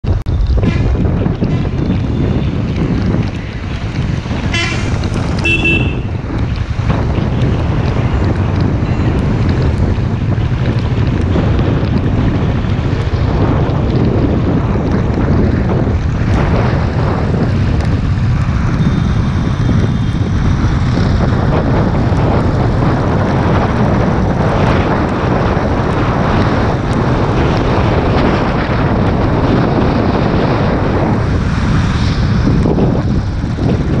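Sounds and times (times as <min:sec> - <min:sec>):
motorcycle engine running: 0:00.0 - 0:34.0
tyres on wet road: 0:00.0 - 0:34.0
wind noise on microphone: 0:00.0 - 0:34.0.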